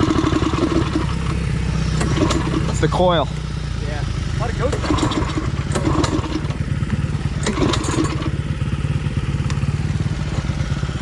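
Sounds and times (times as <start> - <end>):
engine clacks and knocks: 0.0 - 11.0
minibike engine idling: 0.0 - 11.0.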